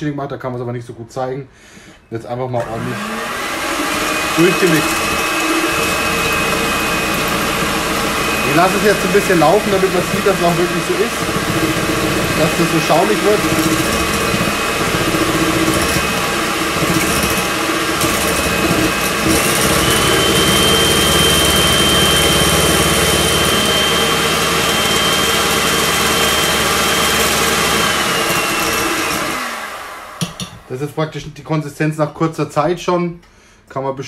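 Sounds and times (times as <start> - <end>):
electric hand mixer whining: 2.6 - 30.7.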